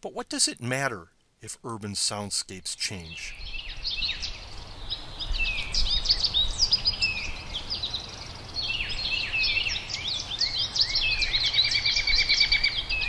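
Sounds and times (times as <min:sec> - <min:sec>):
songbird chorus: 0:00.5 - 0:13.0.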